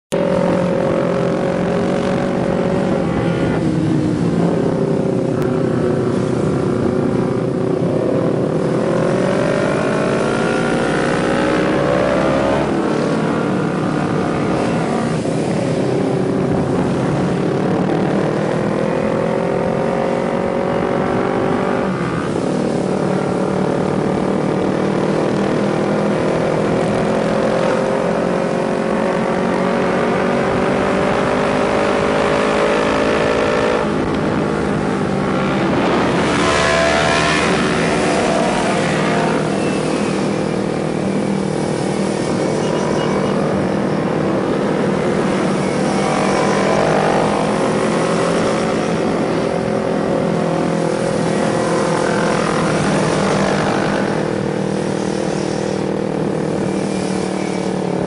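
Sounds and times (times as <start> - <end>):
motorcycles revving: 0.1 - 58.0.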